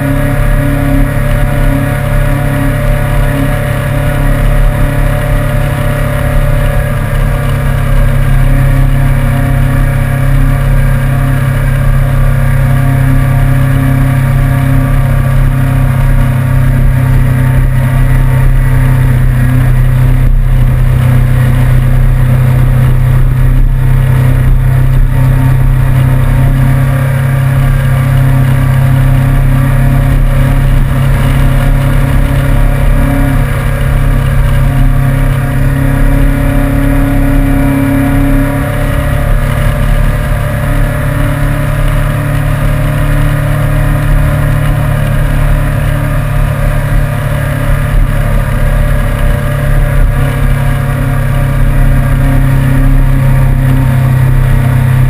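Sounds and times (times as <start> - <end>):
motorcycle engine cruising: 0.0 - 55.0
road noise rushing: 0.0 - 55.0.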